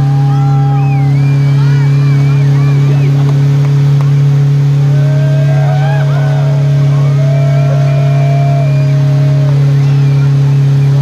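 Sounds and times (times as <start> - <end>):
faint crowd voices: 0.0 - 4.0, 4.8 - 11.0
van engine at high revs: 0.0 - 11.0.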